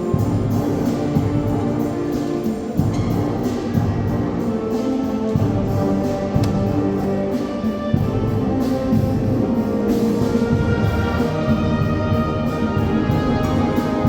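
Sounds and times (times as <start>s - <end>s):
wind band playing: 0.0s - 14.0s.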